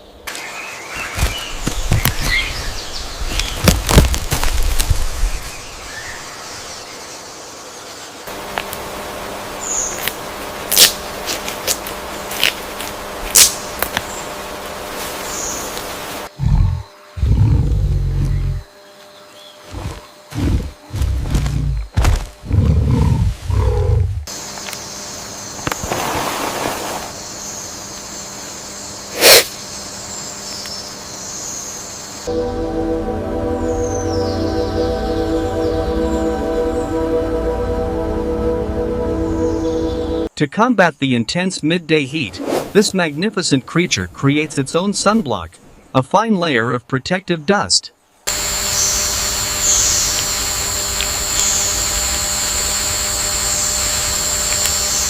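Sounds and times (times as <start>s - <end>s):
steady background hiss: 0.0s - 38.8s, 40.2s - 55.0s
steady high insect buzz: 0.0s - 40.3s, 48.0s - 55.0s.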